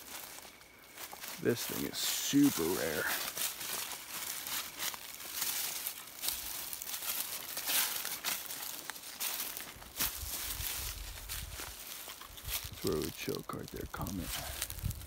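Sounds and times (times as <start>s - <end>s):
footsteps crunching through dry leaves: 0.0s - 15.0s.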